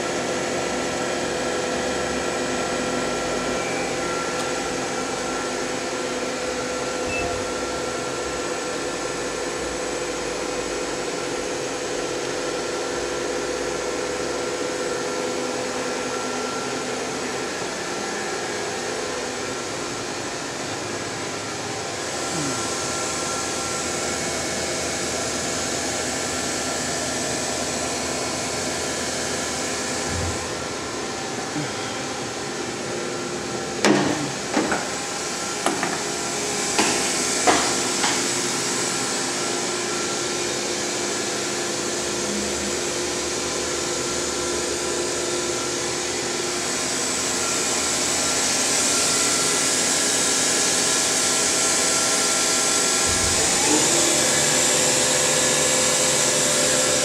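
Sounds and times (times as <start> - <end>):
milling machine humming: 0.0 - 57.0.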